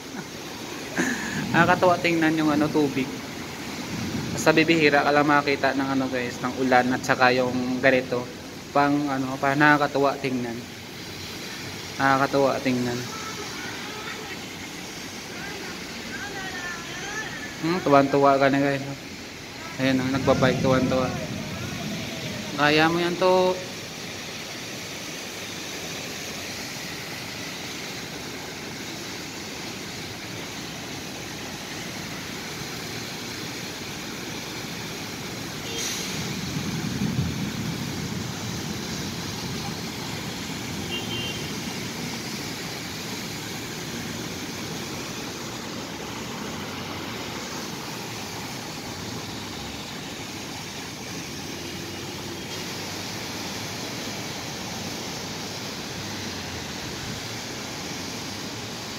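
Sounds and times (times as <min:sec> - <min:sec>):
water rushing: 0:00.0 - 0:58.9.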